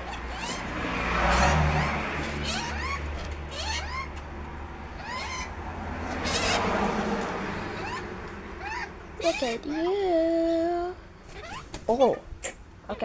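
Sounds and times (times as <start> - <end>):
harsh bird screeches: 0.0 - 9.9, 11.2 - 12.6
lorikeets chirping: 0.0 - 10.2, 11.2 - 12.6.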